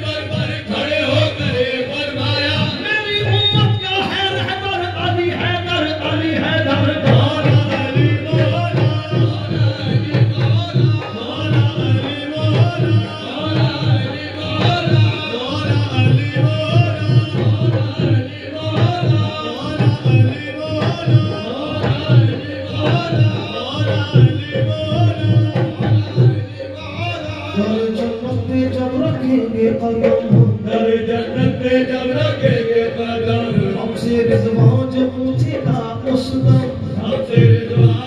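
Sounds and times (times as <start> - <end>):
tabla drumming: 0.0 - 38.0.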